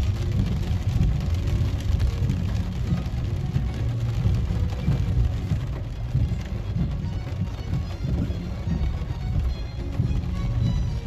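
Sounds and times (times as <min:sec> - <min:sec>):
car engine and tyres rumbling: 0:00.0 - 0:11.0
faint rain hiss: 0:00.0 - 0:11.0.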